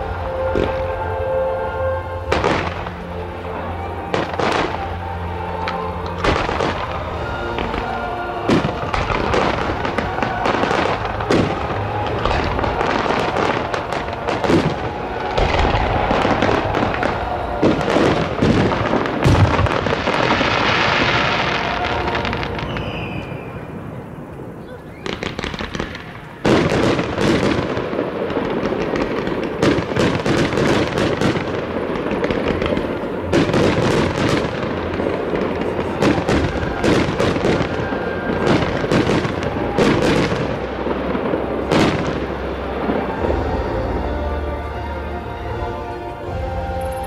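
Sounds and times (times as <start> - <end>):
fireworks crackling: 0.0 - 47.0
music: 0.0 - 47.0.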